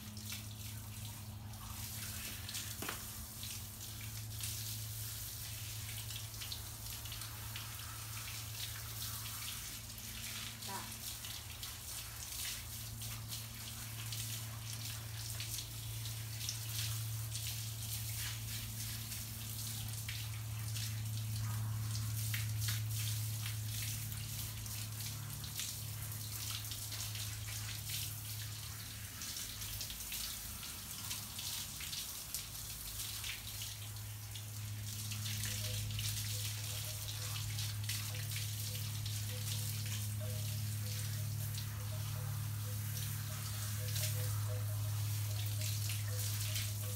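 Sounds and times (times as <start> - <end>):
hose water spraying and splashing: 0.0 - 46.9.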